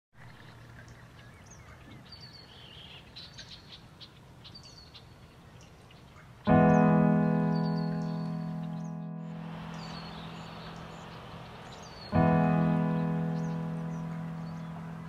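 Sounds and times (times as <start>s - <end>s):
birds chirping: 0.2s - 15.0s.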